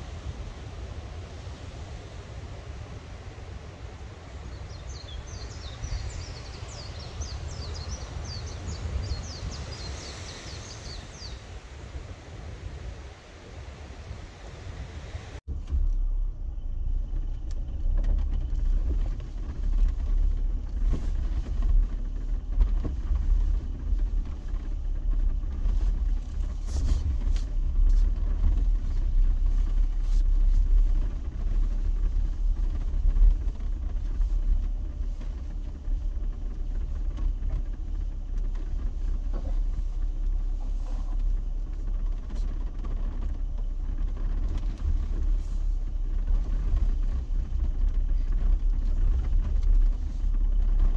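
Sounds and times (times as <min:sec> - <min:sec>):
engine and road rumble: 0:00.0 - 0:50.9.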